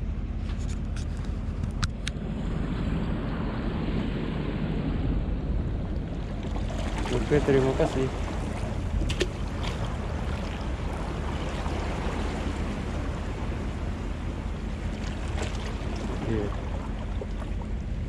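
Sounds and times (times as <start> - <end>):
boat motor humming: 0.0 - 18.0
water noise: 0.0 - 18.0
wind: 0.0 - 18.0.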